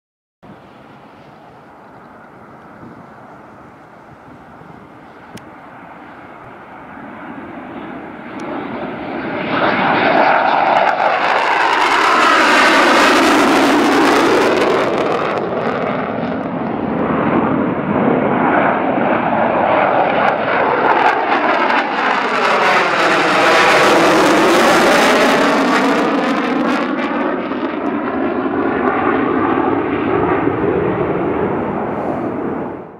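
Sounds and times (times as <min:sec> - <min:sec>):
jet engines roaring overhead: 0:00.5 - 0:32.9.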